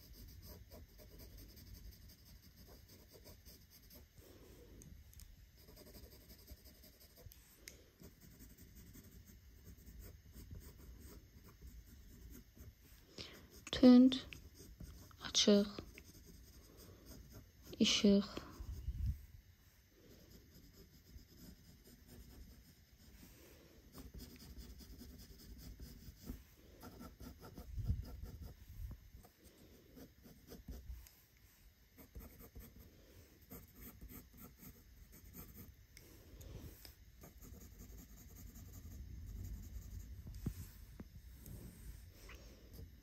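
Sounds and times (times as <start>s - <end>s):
pencil scratching on paper: 0.0s - 4.2s, 5.5s - 7.4s, 8.0s - 18.9s, 20.1s - 31.2s, 32.0s - 35.7s, 37.2s - 40.5s.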